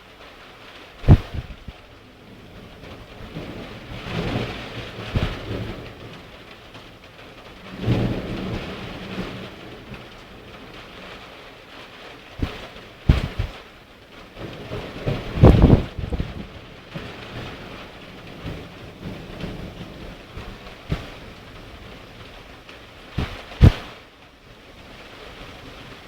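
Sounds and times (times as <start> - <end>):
steady rain: 0.0 - 26.0
thunder rumbling and cracking: 0.6 - 24.1.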